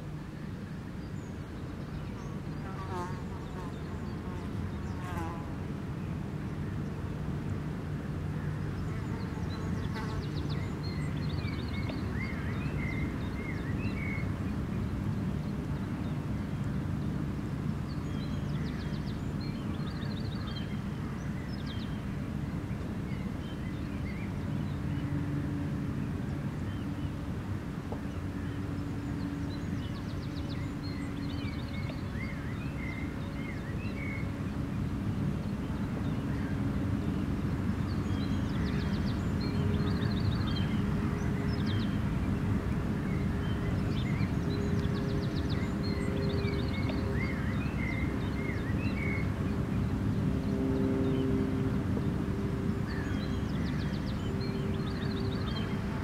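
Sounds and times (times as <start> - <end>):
faint humming drone: 0.0 - 56.0.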